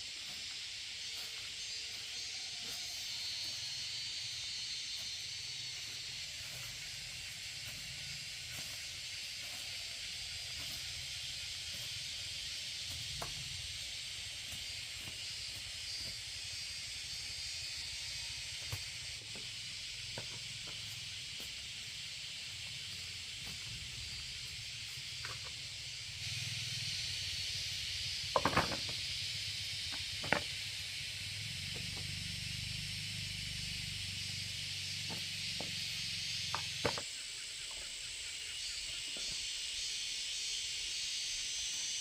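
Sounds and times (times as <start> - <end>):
steady hissing noise: 0.0 - 42.0.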